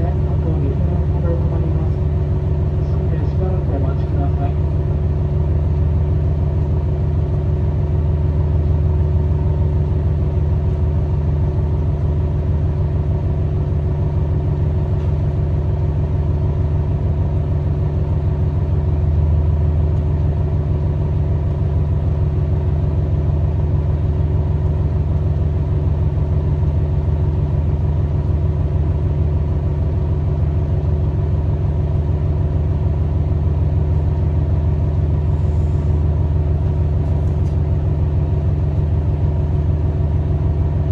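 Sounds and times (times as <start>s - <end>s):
diesel railcar engine idling: 0.0s - 40.9s.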